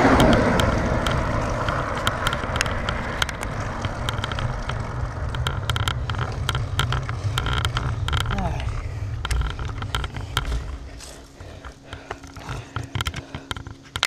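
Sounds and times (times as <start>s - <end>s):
car passing: 0.0s - 13.6s
bike ticks and clicks: 0.0s - 14.0s
bike tyres rumbling on asphalt: 0.0s - 14.0s
wind buffeting camera: 0.0s - 14.0s.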